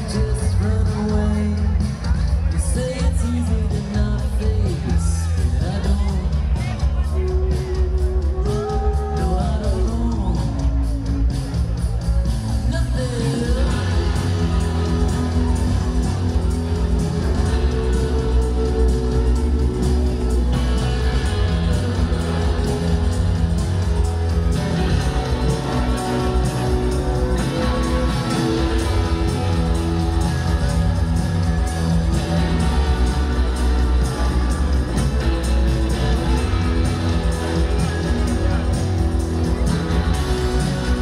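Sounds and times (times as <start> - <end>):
person singing: 0.0 - 11.6, 12.5 - 41.0
bass: 0.0 - 41.0
electric guitar: 0.0 - 41.0
live band playing: 0.0 - 41.0.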